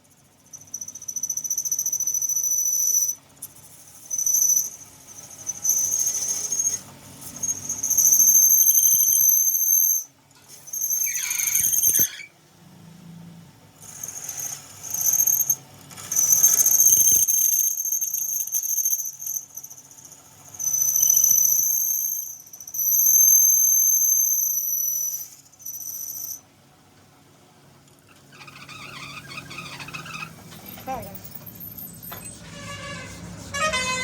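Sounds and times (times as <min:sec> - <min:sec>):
tool screeching on metal: 0:00.5 - 0:12.4, 0:13.8 - 0:26.4, 0:28.1 - 0:34.0.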